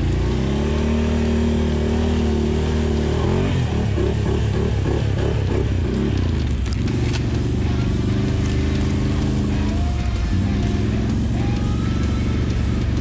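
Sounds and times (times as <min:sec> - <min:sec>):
atv engine wavering: 0:00.0 - 0:13.0.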